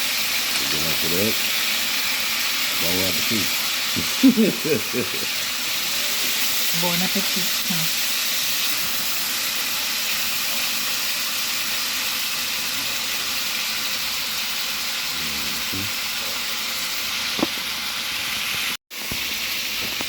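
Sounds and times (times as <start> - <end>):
beef sizzling in a pot: 0.0 - 20.0.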